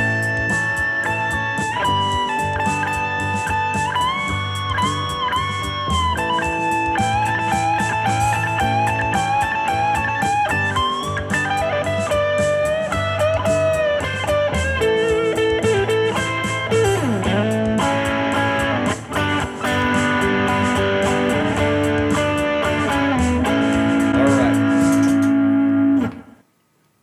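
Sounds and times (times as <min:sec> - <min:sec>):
backing jam with bass: 0:00.0 - 0:26.3
electric guitar lead: 0:00.0 - 0:26.4.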